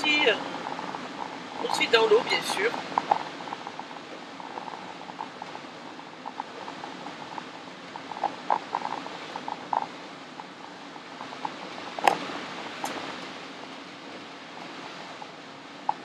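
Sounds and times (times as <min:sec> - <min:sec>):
road noise inside a van: 0:00.0 - 0:16.0.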